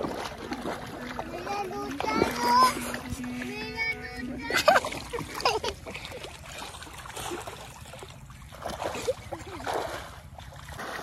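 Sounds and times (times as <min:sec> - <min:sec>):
shallow water splashing: 0:00.0 - 0:11.0.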